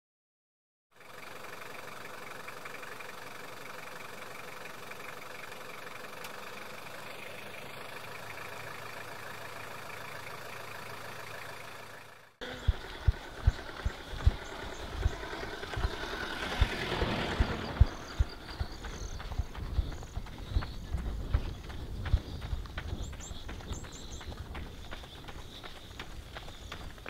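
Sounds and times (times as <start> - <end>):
car engine idling: 1.0 - 27.0.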